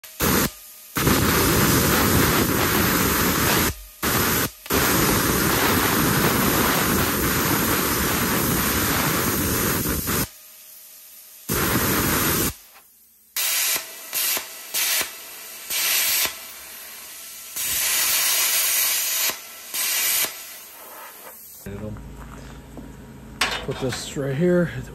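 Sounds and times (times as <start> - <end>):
plasma cutter hissing: 0.0 - 21.7.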